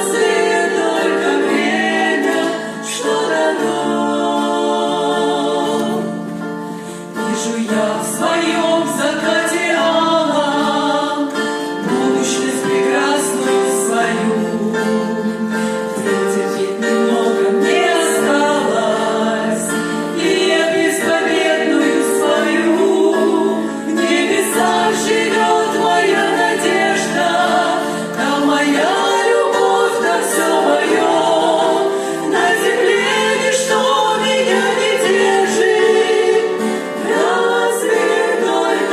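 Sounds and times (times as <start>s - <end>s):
group singing worship song: 0.0s - 38.9s.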